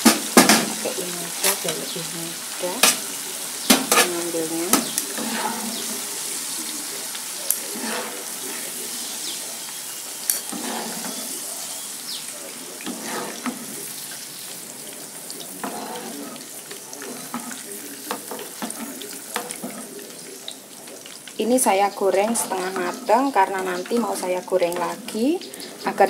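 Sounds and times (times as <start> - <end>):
hot oil sizzling and crackling: 0.0 - 26.0.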